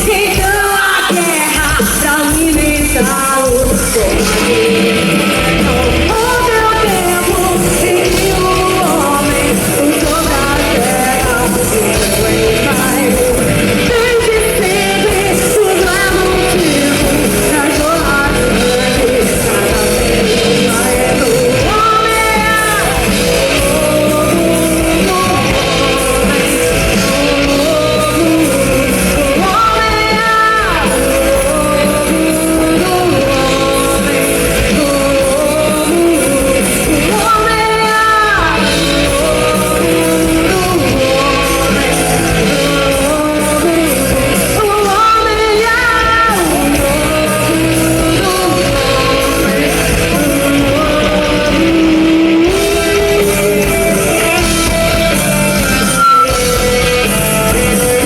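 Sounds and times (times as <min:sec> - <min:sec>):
lead singer singing: 0:00.0 - 0:58.0
rock band playing live: 0:00.0 - 0:58.0.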